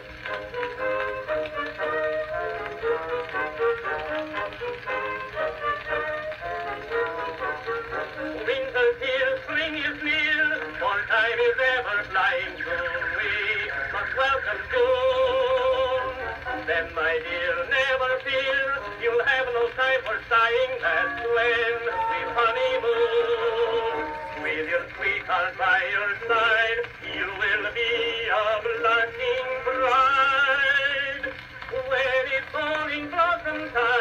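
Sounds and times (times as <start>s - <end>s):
phonograph playing a song: 0.0s - 34.0s.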